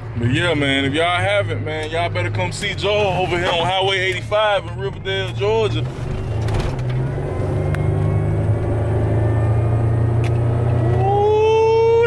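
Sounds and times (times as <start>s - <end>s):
car engine accelerating: 0.0s - 12.0s
supercharger whine: 0.0s - 12.0s.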